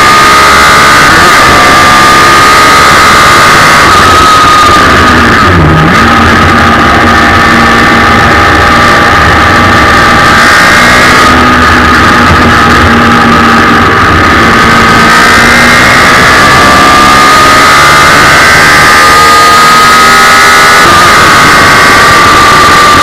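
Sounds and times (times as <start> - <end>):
motorcycle engine at high revs: 0.0 - 23.0.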